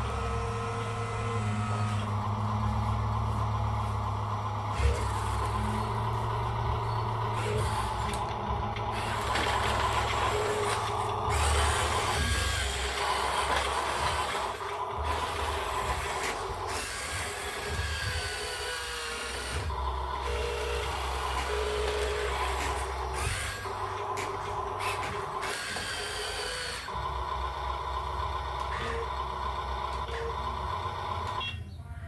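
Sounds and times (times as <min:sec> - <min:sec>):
heavy vehicle engine running: 0:00.0 - 0:32.0.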